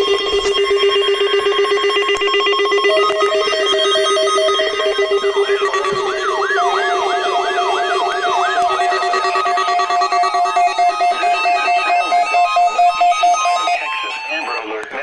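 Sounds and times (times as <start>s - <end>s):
siren-like sweep: 0.0s - 14.8s
electronic alert tones: 0.0s - 15.0s.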